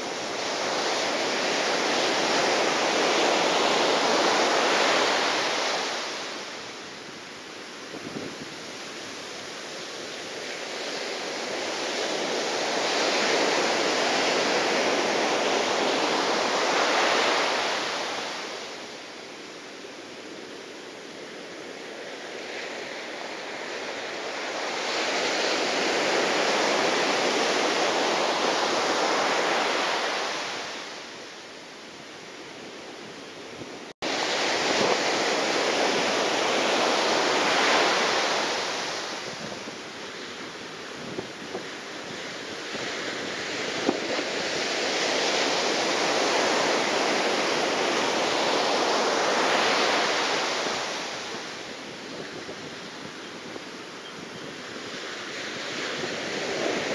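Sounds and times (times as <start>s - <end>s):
rushing water: 0.0s - 56.9s
rushing wind: 0.0s - 56.9s.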